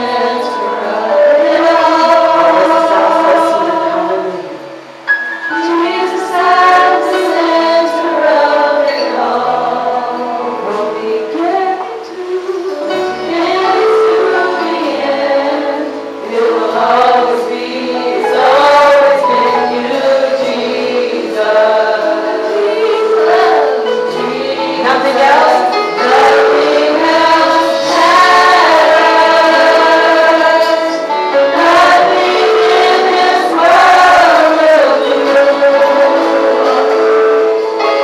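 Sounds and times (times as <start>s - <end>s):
instrumental accompaniment bass notes: 0.0s - 38.0s
women singing gospel song: 0.0s - 38.0s.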